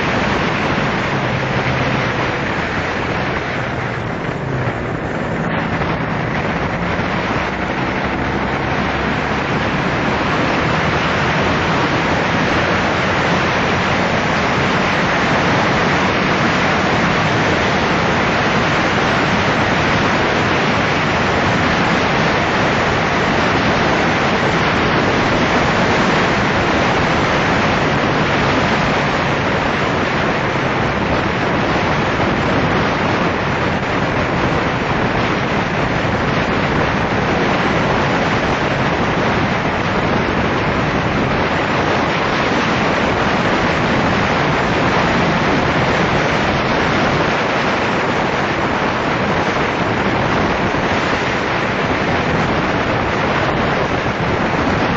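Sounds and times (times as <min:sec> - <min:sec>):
wind rushing on microphone: 0:00.0 - 0:54.9.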